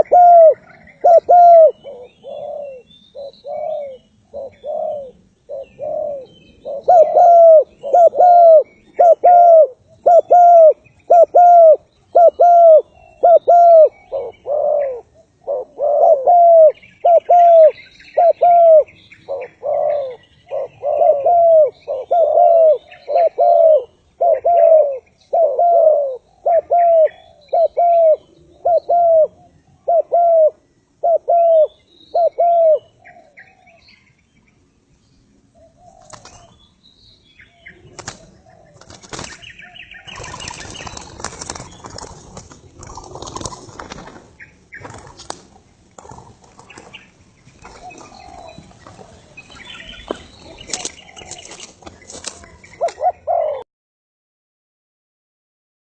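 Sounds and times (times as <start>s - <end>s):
doves cooing: 0.0s - 33.8s, 35.5s - 36.6s, 37.7s - 53.6s
small birds chirping: 0.0s - 53.6s.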